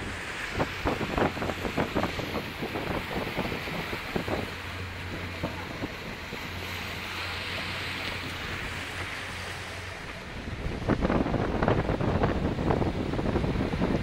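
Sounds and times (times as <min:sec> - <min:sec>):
motorboat engine hum: 0:00.0 - 0:14.0
wake water rushing: 0:00.0 - 0:14.0
wind buffeting microphone: 0:00.0 - 0:14.0.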